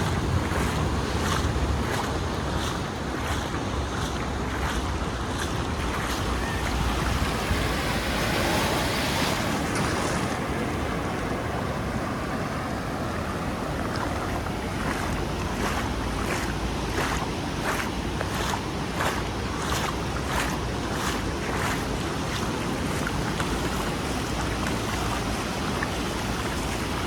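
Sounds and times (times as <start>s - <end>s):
waves breaking on shore: 0.0s - 27.0s
wind buffeting microphone: 0.0s - 27.0s.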